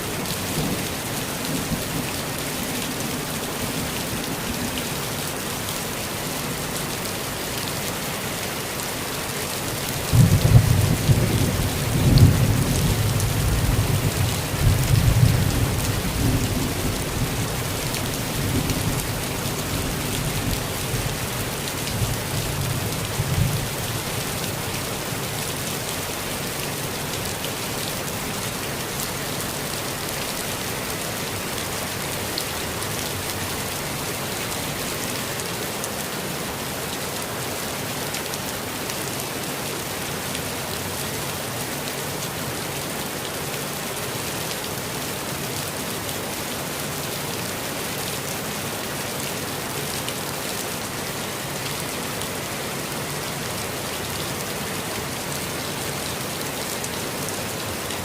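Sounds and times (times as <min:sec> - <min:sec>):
rain falling on a forest: 0:00.0 - 0:58.0.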